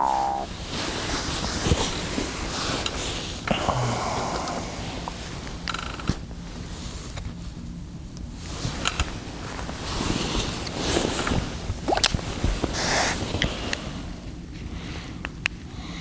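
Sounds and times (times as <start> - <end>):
rustling handling noise: 0.1 - 14.8.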